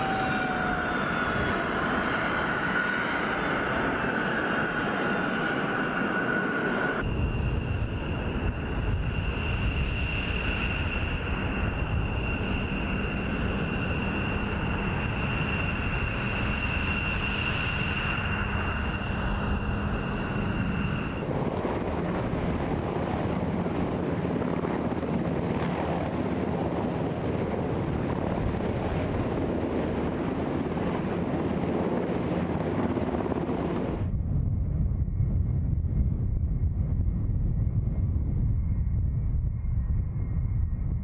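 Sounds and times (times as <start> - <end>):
deep jet engine rumble: 0.0 - 41.0
helicopter turbine and rotor noise: 0.0 - 41.0
jet engines whining: 0.0 - 41.0.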